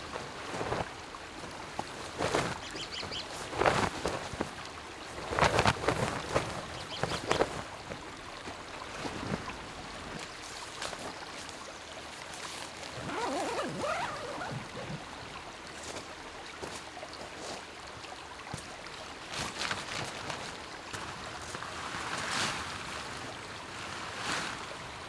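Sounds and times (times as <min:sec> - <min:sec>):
lake water lapping at shore: 0:00.0 - 0:23.4.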